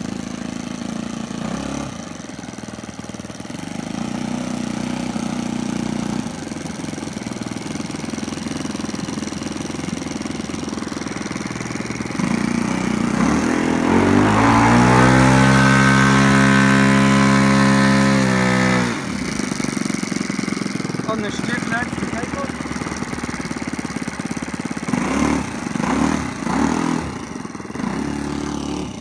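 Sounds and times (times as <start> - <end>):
model airplane engine running: 0.0 - 29.0.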